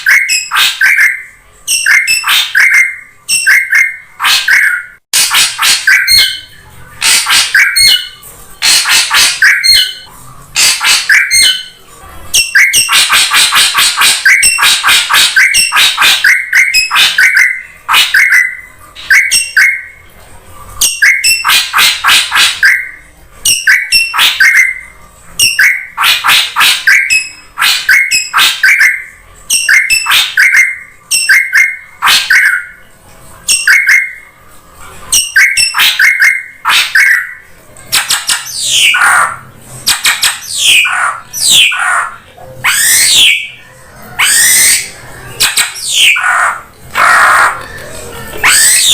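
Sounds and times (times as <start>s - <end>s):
bird harsh chattering calls: 0.0s - 11.8s, 12.4s - 20.0s, 20.8s - 32.8s, 35.2s - 43.6s, 44.2s - 47.6s, 48.4s - 48.9s.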